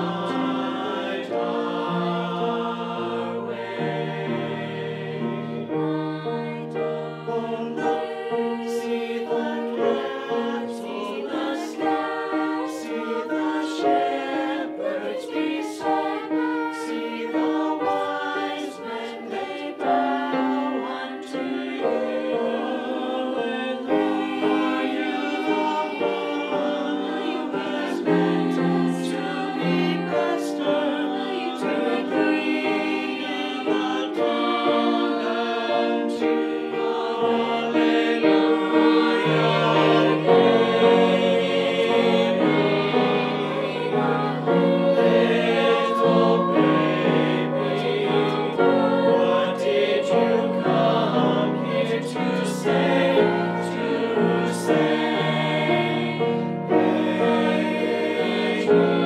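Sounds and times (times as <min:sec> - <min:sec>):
choir singing: 0:00.0 - 0:59.0
piano accompaniment: 0:00.0 - 0:59.0.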